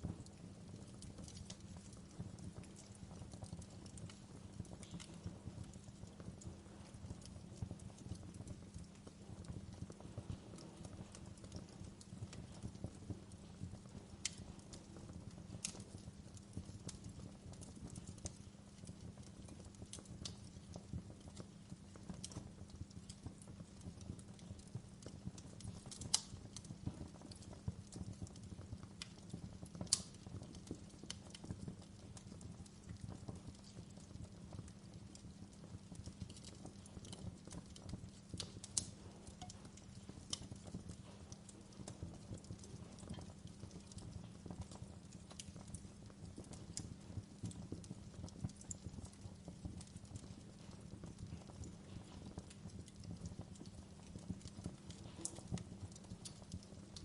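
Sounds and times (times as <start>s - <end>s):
burning logs rumbling: 0.0s - 57.0s
wood fire pops and snaps: 0.0s - 57.0s.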